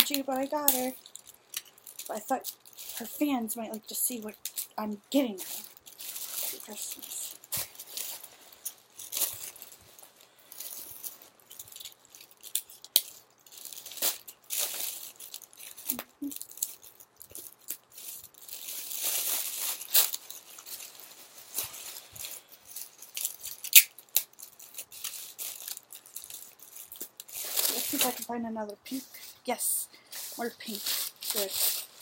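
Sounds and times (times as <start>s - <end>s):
tissue paper crinkling: 0.0s - 32.0s.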